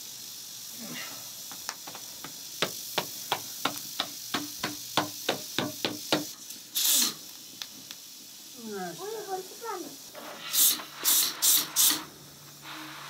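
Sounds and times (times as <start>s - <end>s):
steam hissing from valve: 0.0s - 13.0s.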